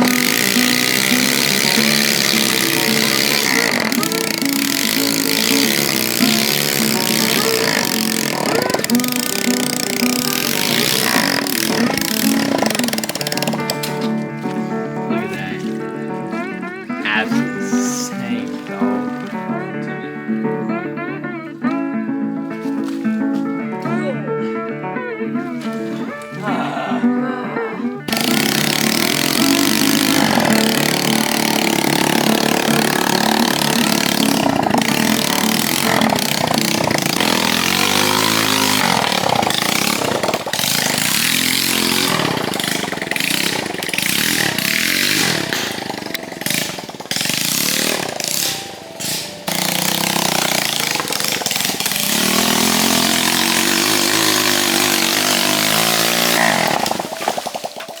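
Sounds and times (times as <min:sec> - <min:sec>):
dirt bike engine revving: 0:00.0 - 0:21.9, 0:28.0 - 0:58.0.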